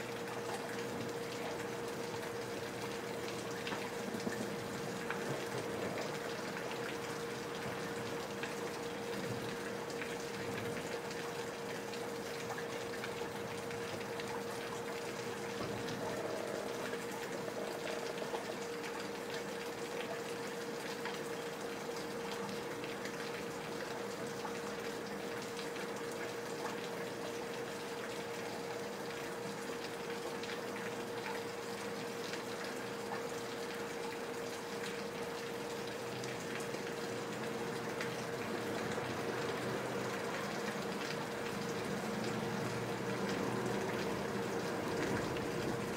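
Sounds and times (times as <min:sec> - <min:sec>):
water running from gutters: 0:00.0 - 0:45.9.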